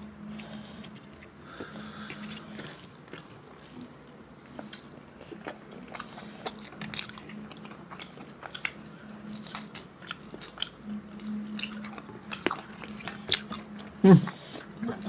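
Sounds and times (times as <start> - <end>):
wet chewing smacks and clicks: 0.3 - 14.8.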